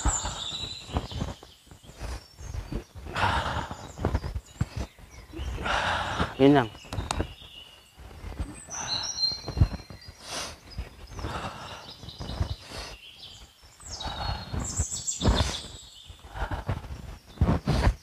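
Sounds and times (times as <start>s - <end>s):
thin high bird calls: 0.0s - 17.9s
forest birds chirping: 0.0s - 18.0s.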